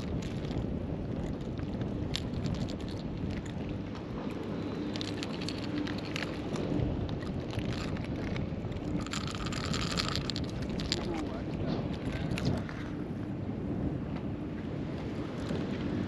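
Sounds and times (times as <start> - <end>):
water lapping: 0.0 - 13.0
wind buffeting microphone: 0.0 - 16.0.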